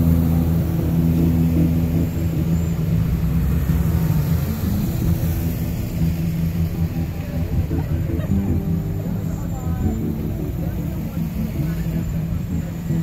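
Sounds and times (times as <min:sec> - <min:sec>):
vehicles driving slowly past: 0:00.0 - 0:13.0.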